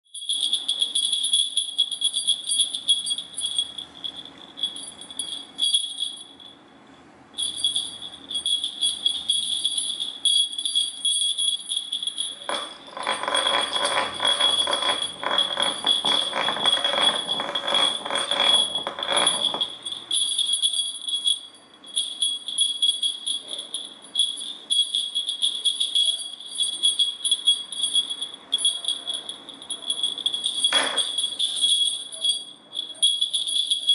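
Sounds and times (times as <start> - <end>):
small jingle bell jingling: 0.0 - 6.6, 7.4 - 33.9
rustling and rattling: 0.1 - 6.5, 7.4 - 33.9.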